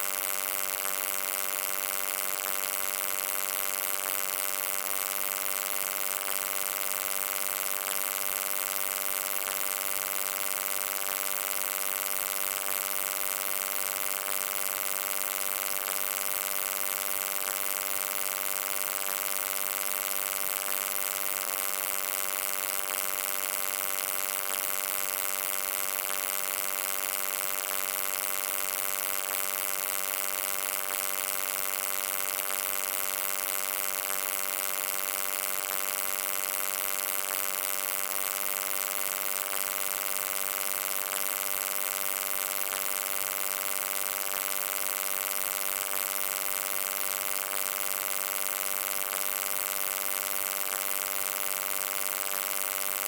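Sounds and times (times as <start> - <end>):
electrical hum with hiss: 0.0 - 53.0.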